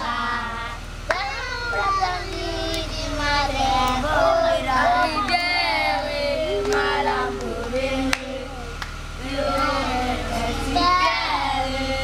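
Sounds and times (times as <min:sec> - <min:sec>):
children singing: 0:00.0 - 0:12.0
steady low hum: 0:00.0 - 0:12.0.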